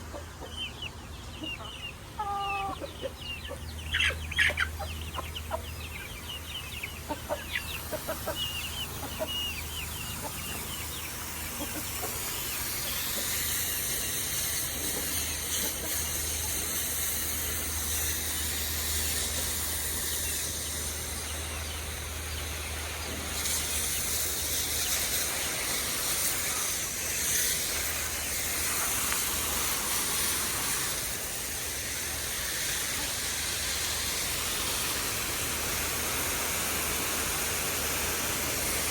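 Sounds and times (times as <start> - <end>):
chickens clucking: 0.0 - 38.9
water spraying from garden hose: 7.0 - 38.9.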